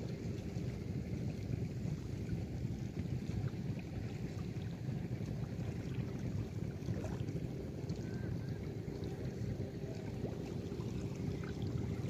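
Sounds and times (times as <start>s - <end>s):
river water lapping: 0.0s - 12.0s.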